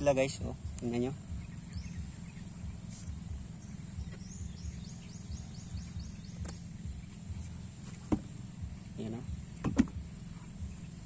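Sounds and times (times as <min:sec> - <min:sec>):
bird trilling: 0:00.0 - 0:09.6.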